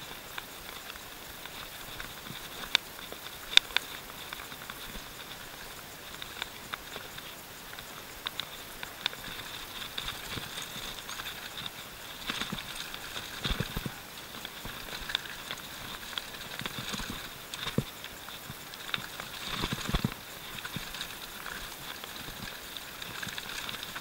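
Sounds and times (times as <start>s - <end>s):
bike knocking and rattling: 0.0s - 24.0s.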